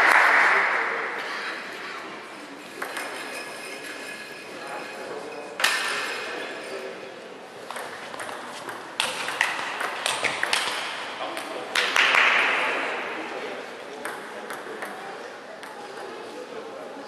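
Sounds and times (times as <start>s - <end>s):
murmur of voices: 0.0s - 17.0s.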